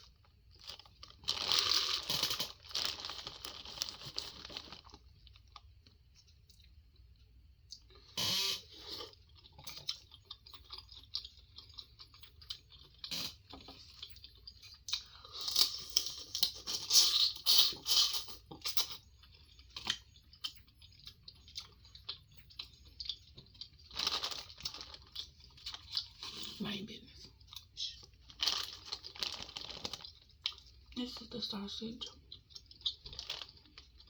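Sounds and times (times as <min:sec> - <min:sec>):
person chewing and eating: 0:00.0 - 0:31.0, 0:32.1 - 0:34.0.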